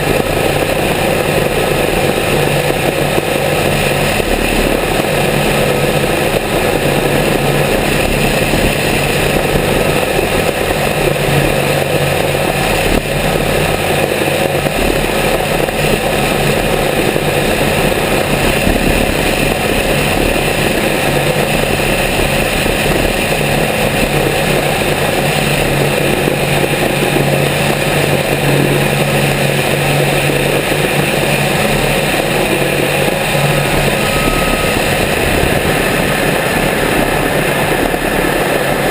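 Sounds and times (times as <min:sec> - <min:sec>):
twin piston aircraft engines running: 0:00.0 - 0:38.9.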